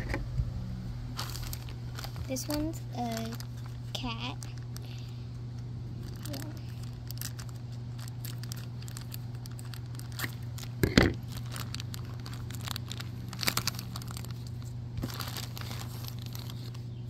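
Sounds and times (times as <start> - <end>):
steady low hum: 0.0 - 17.0
plastic bag crinkling and tearing: 1.2 - 5.2, 6.0 - 17.0.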